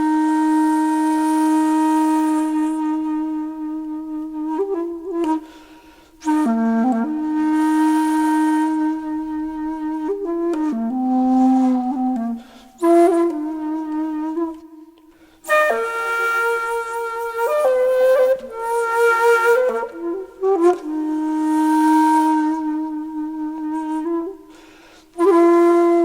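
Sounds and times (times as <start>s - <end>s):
slow flute melody: 0.0s - 26.0s.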